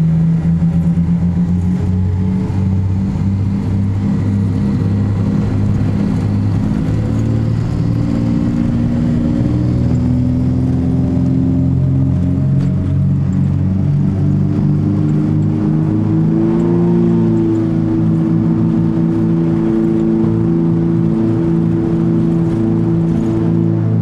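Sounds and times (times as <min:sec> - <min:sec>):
twin propeller aircraft engines droning: 0:00.0 - 0:24.0.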